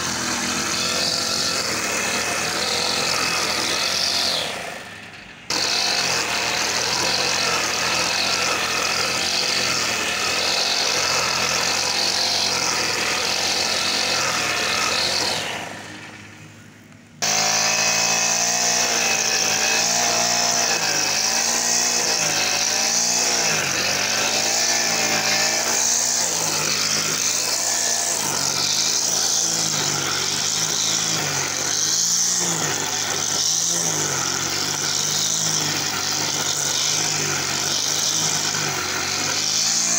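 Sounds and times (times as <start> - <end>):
brush cutter engine: 0.0 - 39.9.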